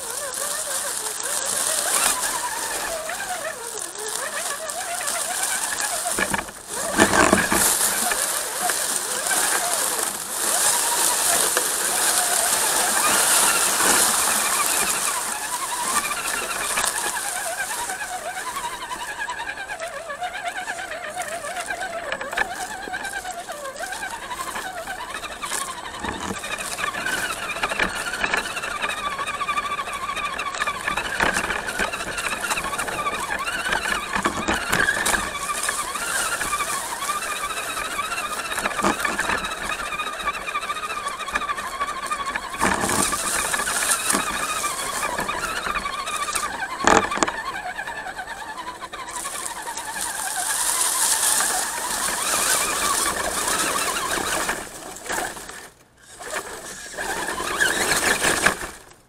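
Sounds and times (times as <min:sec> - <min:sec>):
electric motor whining: 0:00.0 - 0:59.0.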